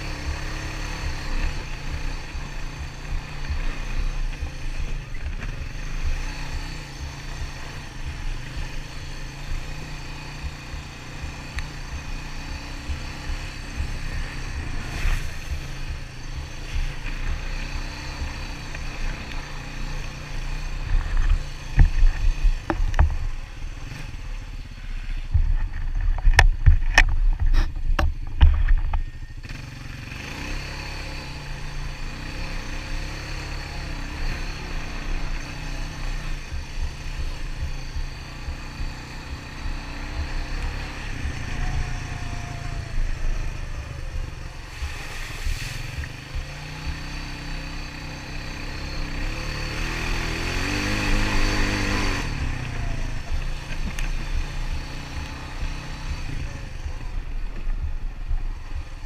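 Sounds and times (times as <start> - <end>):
steady low rumble: 0.0 - 30.1, 34.2 - 59.0
atv engine revving: 0.0 - 59.0.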